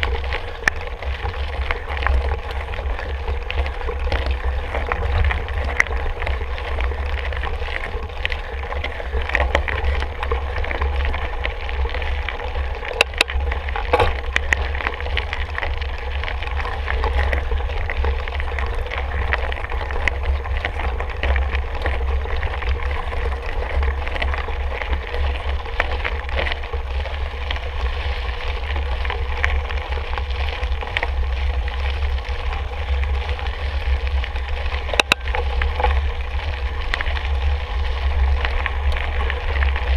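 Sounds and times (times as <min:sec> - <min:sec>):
bike tyres on trail: 0:00.0 - 0:39.9
wind rumble on microphone: 0:00.0 - 0:39.9.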